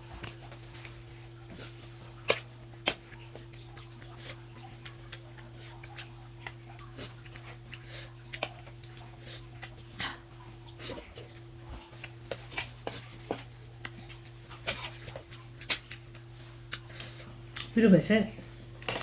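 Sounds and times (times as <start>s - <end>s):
low electrical hum: 0.0s - 19.0s
eating clicks and smacks: 0.2s - 17.8s.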